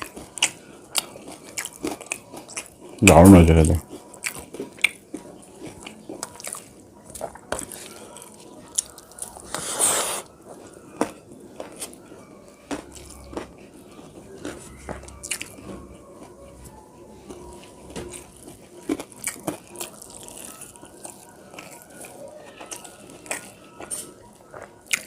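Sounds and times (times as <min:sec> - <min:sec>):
chewing and crunching food: 0:00.0 - 0:25.0.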